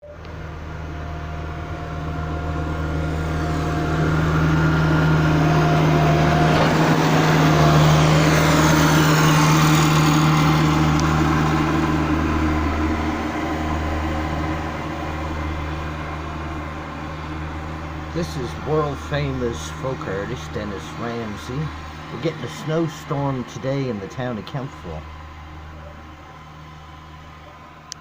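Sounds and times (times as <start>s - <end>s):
road vehicle passing: 0.0s - 28.0s
steady low hum: 0.2s - 28.0s.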